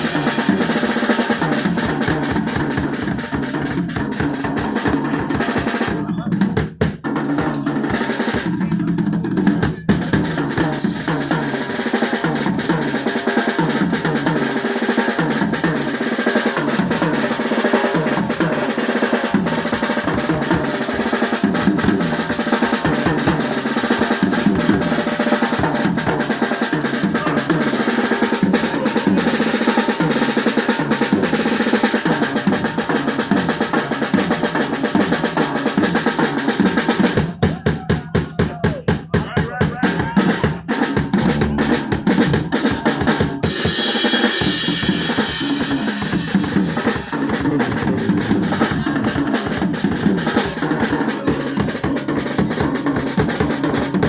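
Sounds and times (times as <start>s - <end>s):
bass drum beating: 0.0s - 14.6s, 16.6s - 43.8s, 44.5s - 54.0s
live band playing: 0.0s - 54.0s
snare drum rolls: 0.0s - 54.0s.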